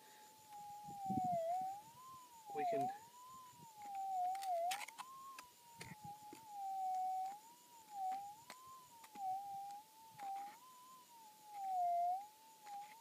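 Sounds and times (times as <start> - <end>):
metal detector wavering tone: 0.0 - 13.0.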